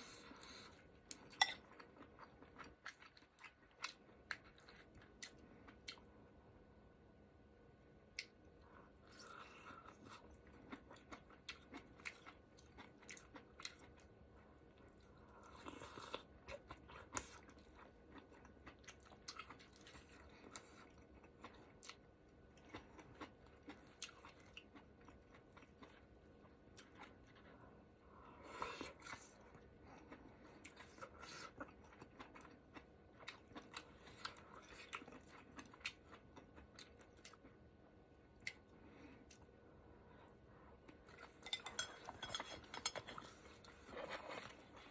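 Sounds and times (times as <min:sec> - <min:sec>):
person chewing food: 0:00.0 - 0:06.4, 0:08.1 - 0:44.9.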